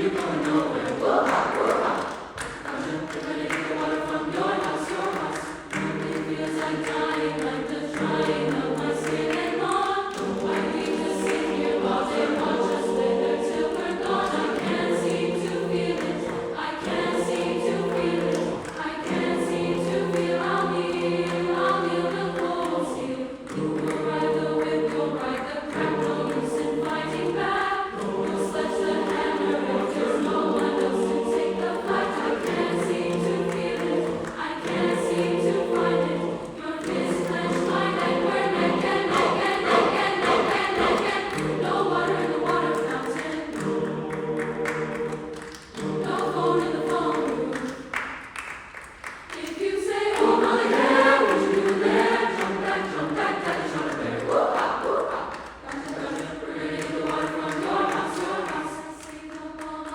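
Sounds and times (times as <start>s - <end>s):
mixed choir singing: 0.0s - 59.9s.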